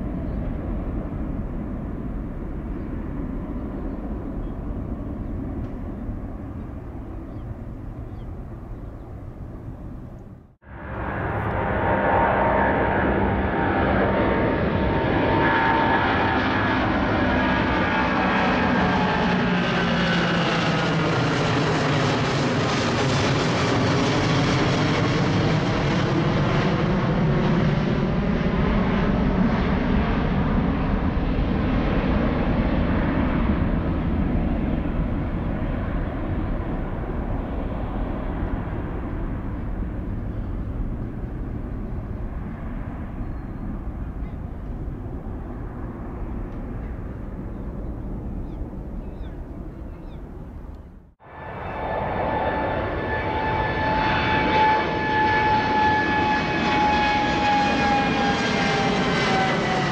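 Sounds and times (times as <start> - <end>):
jet engine rush overhead: 0.0 - 59.9.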